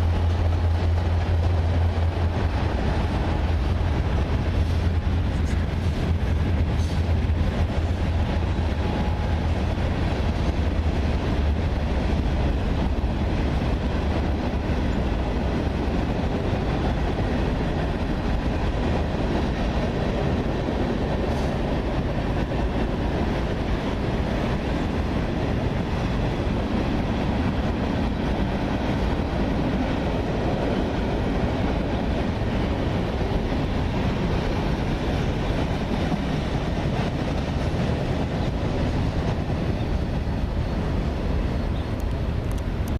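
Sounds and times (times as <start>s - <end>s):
train wheels clattering on rails: 0.0s - 42.9s.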